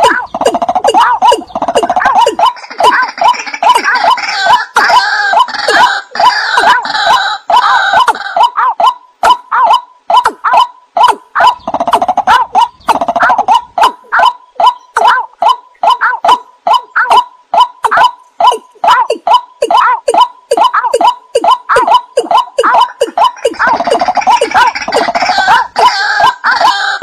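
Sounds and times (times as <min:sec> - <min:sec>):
birds giving short sharp calls: 0:00.0 - 0:27.0.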